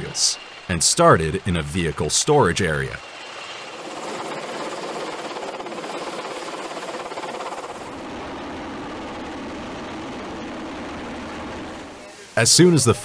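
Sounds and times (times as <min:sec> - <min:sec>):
helicopter rotor chop: 0:00.0 - 0:12.8.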